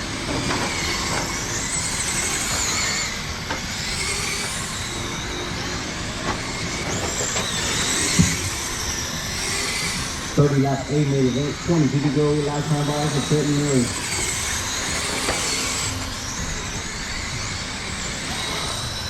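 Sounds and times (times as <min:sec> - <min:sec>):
rc car motors whining: 0:00.0 - 0:19.0.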